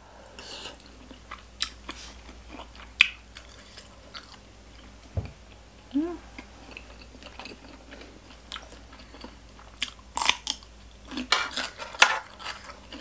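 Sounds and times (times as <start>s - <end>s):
person chewing: 0.4s - 5.0s, 6.2s - 11.7s, 12.3s - 13.0s.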